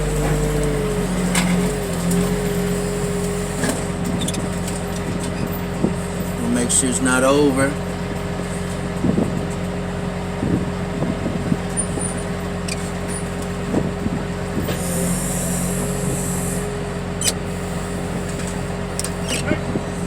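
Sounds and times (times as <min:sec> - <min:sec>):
heavy vehicle engine idling: 0:00.0 - 0:20.0.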